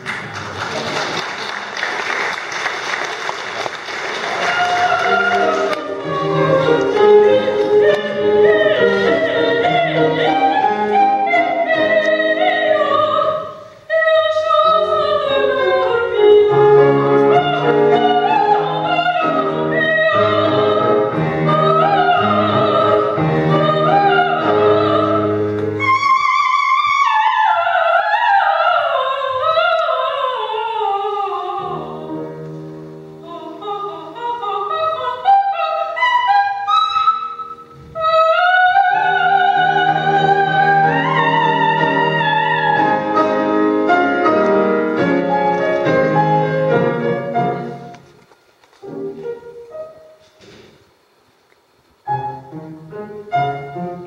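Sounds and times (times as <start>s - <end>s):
piano accompaniment: 3.1s - 28.8s, 29.4s - 48.2s, 48.8s - 50.8s, 52.0s - 54.0s
woman singing opera: 4.2s - 47.9s.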